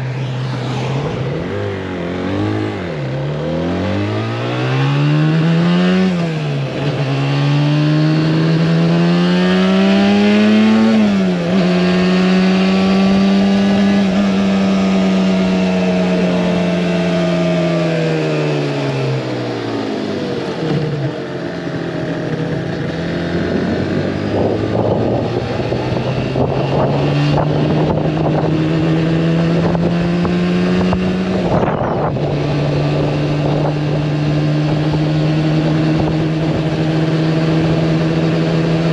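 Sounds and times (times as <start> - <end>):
two-stroke motorcycle engine: 1.4 - 38.9.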